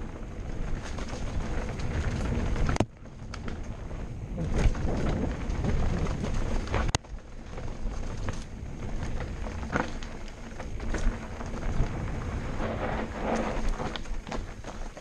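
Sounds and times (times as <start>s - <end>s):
bike knocking and rattling: 0.0s - 15.0s
bike tyres crunching over stones: 0.0s - 15.0s.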